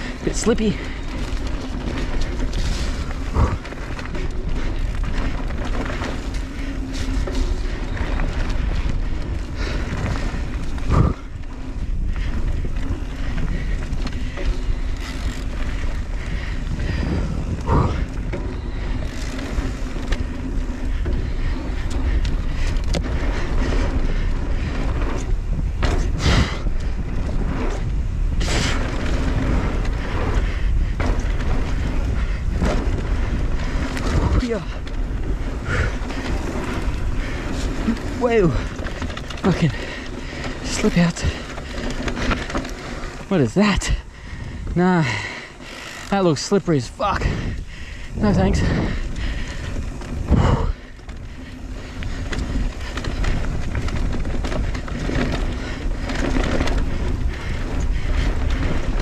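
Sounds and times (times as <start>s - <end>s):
rolling tyre and trail noise: 0.0s - 59.0s
wind rumble on microphone: 0.0s - 59.0s.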